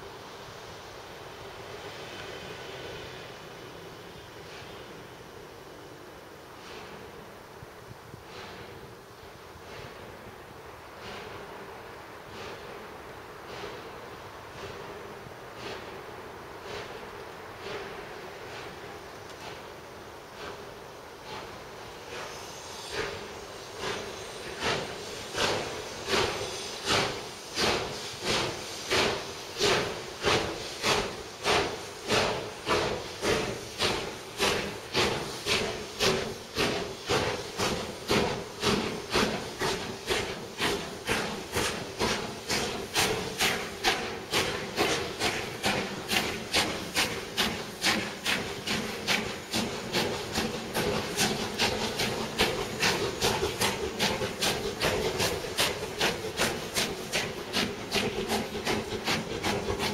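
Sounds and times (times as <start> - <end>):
steam locomotive chuffing: 0.0 - 59.9.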